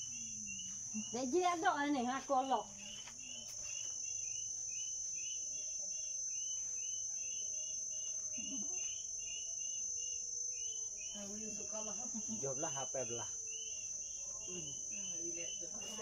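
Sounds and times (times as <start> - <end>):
insects droning on a high note: 0.0 - 16.0
short insect chirps: 0.0 - 16.0.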